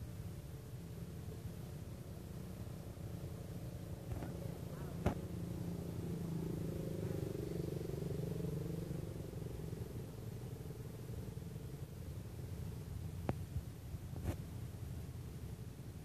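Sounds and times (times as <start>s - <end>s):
car engine rumble: 0.0s - 16.0s
road traffic: 0.0s - 16.0s.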